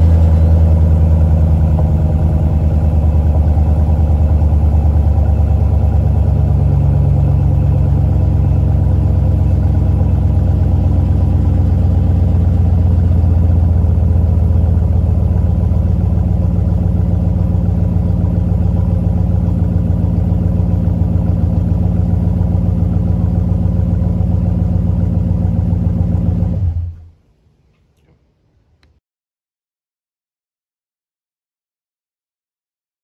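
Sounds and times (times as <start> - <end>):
pickup engine idling: 0.0 - 27.1.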